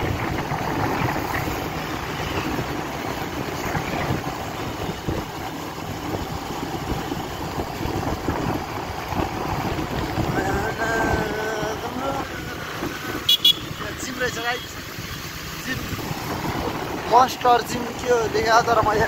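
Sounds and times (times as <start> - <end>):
motorbike engine running: 0.0 - 19.0
wind rushing over microphone: 0.0 - 19.0.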